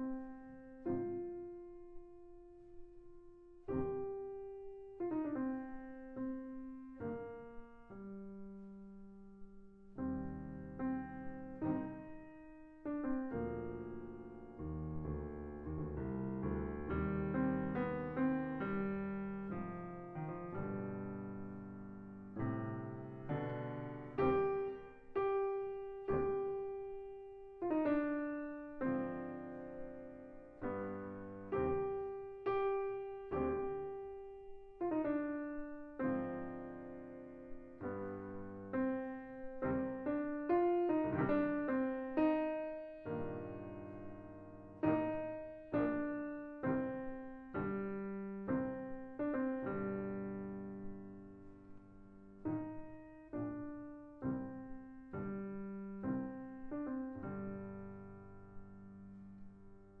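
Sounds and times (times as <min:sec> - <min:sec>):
solo piano: 0:00.0 - 1:00.0.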